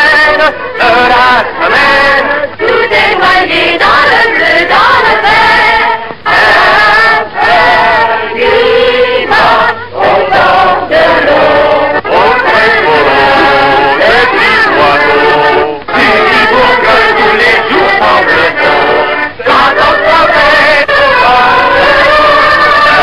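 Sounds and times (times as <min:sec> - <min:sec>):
background music: 0:00.0 - 0:23.0
choir singing: 0:00.0 - 0:23.0.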